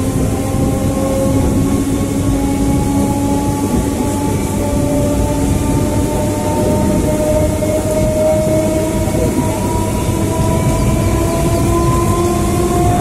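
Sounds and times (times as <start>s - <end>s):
faint whining tones: 0.0s - 13.0s
train rolling rumble: 0.0s - 13.0s.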